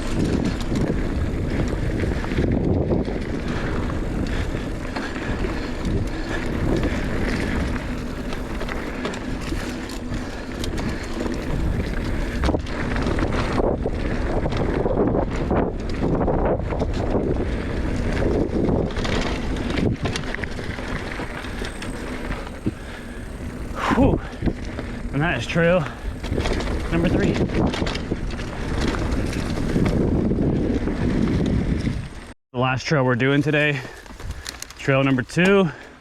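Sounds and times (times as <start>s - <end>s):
bike knocks and rattles: 0.0s - 32.1s
bike tyre noise on dirt: 0.0s - 32.4s, 33.2s - 36.0s
wind rushing over microphone: 0.0s - 32.4s.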